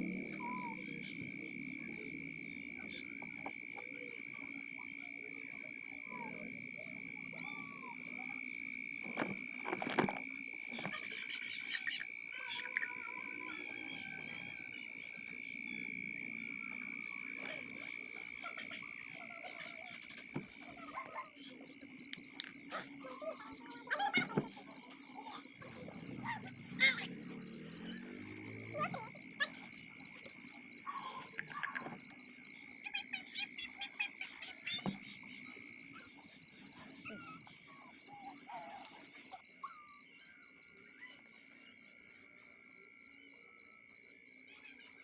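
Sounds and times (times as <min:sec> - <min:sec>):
frogs and insects trilling: 0:00.0 - 0:45.0.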